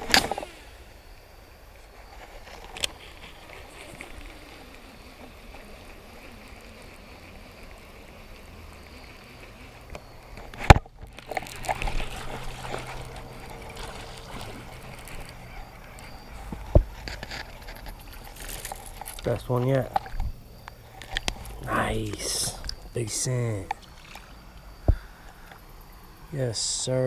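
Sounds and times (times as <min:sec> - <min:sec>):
creek water flowing: 0:00.0 - 0:26.8
rustling: 0:01.7 - 0:25.7.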